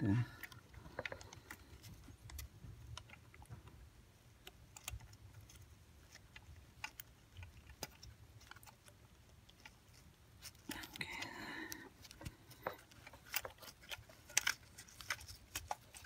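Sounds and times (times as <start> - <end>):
small clicks and taps of parts: 0.3 - 16.0.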